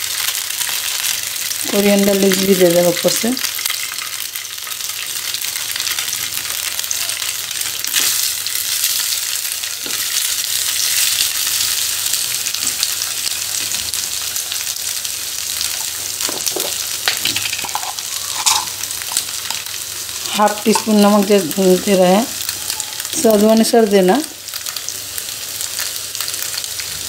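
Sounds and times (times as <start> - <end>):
oil sizzling in a frying pan: 0.0 - 27.0.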